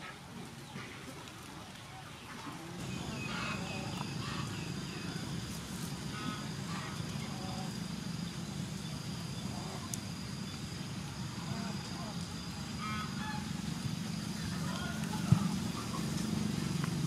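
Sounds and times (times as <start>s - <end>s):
bird calls: 1.9s - 10.6s, 11.4s - 17.0s.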